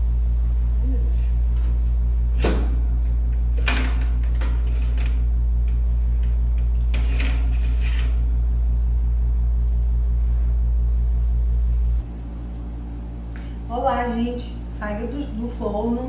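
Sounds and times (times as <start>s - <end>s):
oven humming: 0.0s - 16.0s.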